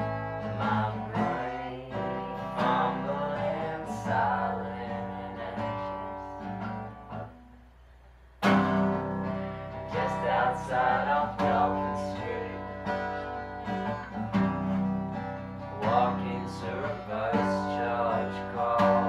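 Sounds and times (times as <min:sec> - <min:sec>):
acoustic guitar strumming: 0:00.0 - 0:07.8, 0:08.4 - 0:19.0.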